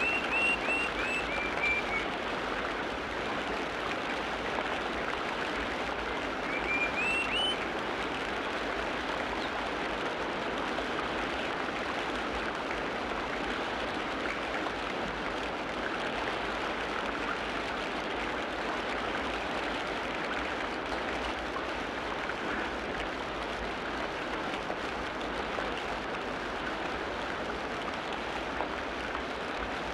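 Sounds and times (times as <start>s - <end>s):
water rushing: 0.0s - 29.9s.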